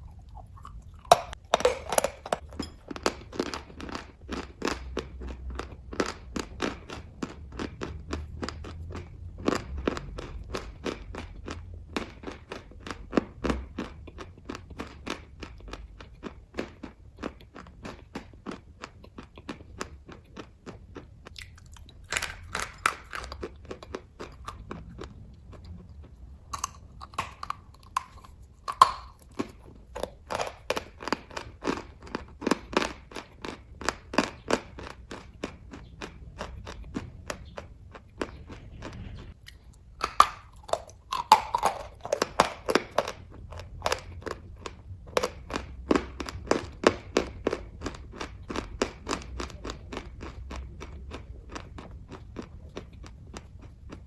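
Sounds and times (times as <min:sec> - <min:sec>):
close-up chewing: 0:00.0 - 0:54.0.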